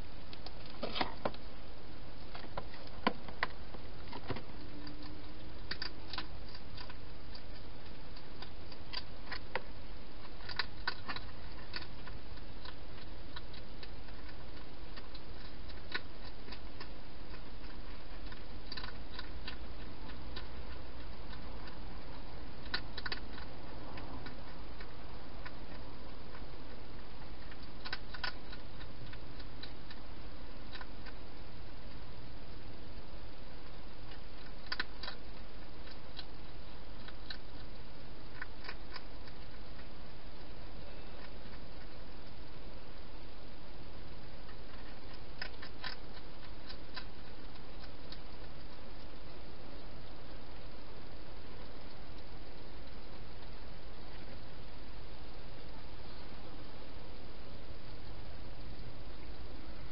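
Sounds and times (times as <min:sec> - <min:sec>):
hedgehog eating crunches: 0:00.0 - 0:59.9
steady hiss: 0:00.0 - 0:59.9.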